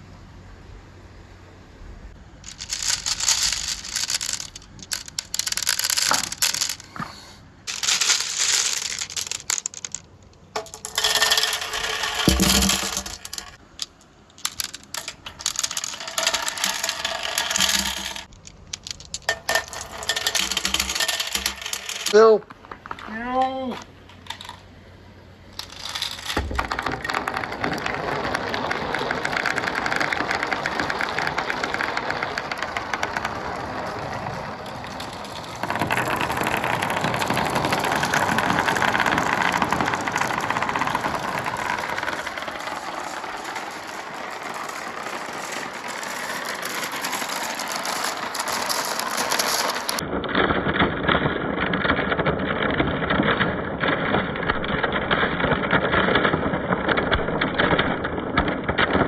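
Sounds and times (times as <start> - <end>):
marbles rattling along a track: 2.4 - 24.7, 25.4 - 59.0.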